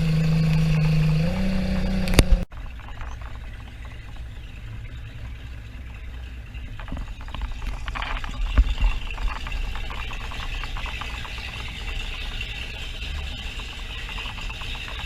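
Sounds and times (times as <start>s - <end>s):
powerboat engine running: 0.0s - 15.0s.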